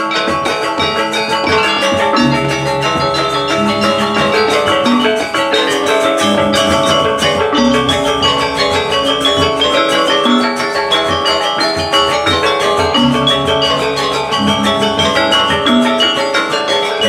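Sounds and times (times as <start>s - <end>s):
gamelan gong ensemble: 0.0s - 17.0s
deep low gong notes: 1.4s - 16.7s.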